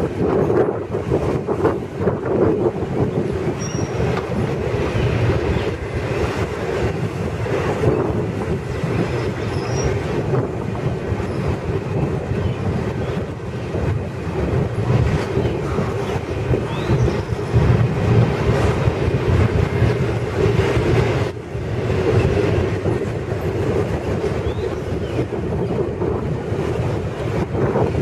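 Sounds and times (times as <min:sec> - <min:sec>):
steel train wheels rumbling on rails: 0:00.0 - 0:28.0.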